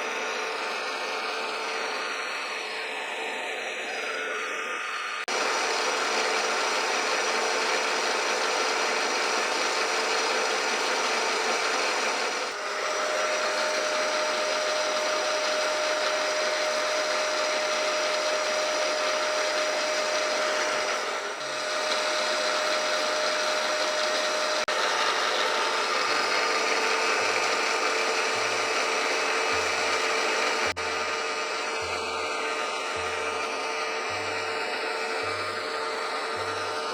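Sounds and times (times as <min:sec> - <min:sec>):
machine whining tones: 0:00.0 - 0:36.9
milling machine humming: 0:00.0 - 0:36.9.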